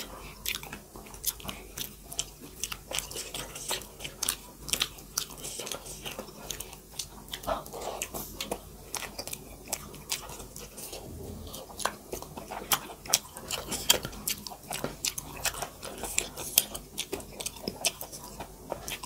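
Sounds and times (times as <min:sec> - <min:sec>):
people chewing with mouth smacks: 0:00.0 - 0:19.0.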